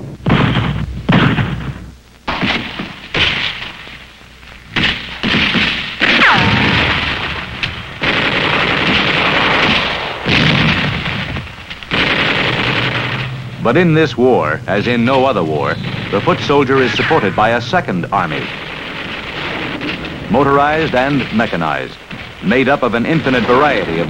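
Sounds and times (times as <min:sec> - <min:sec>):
gunshots and blasts: 0:00.0 - 0:24.0.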